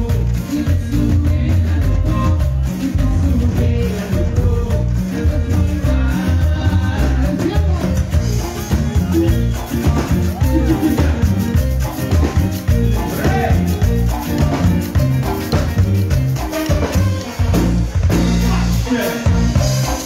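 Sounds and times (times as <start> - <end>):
live cumbia band music: 0.0 - 20.0.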